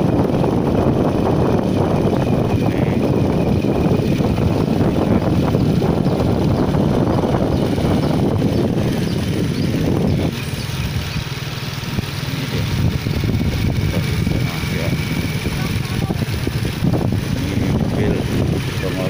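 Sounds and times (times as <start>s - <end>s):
motor scooter engine rumble: 0.0s - 19.0s.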